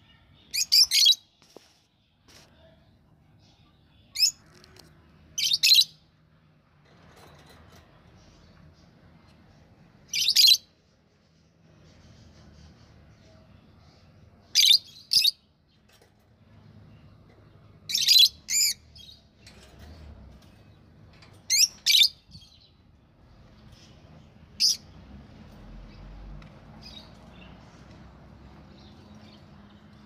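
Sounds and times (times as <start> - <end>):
soft bird chatter: 0.0 - 30.0.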